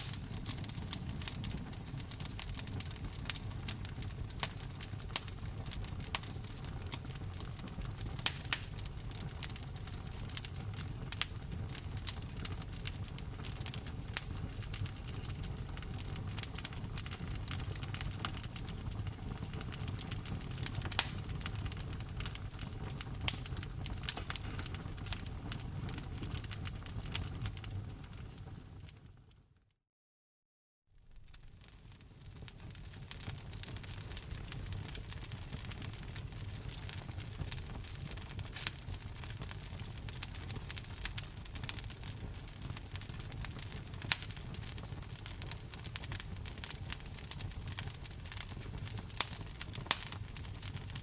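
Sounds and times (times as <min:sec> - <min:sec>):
wood fire crackling: 0:00.0 - 0:29.4, 0:31.0 - 0:51.0.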